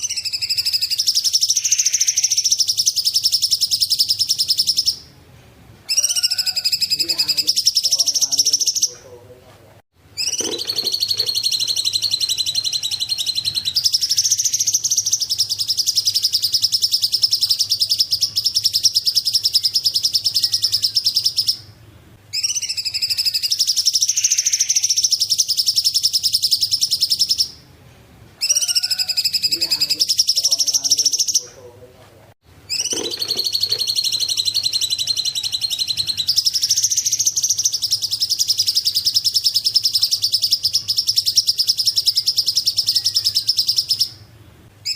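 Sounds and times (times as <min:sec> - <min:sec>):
bird high-pitched trills: 0:00.0 - 0:05.1, 0:05.9 - 0:09.0, 0:10.2 - 0:21.7, 0:22.3 - 0:27.6, 0:28.4 - 0:31.5, 0:32.7 - 0:44.9.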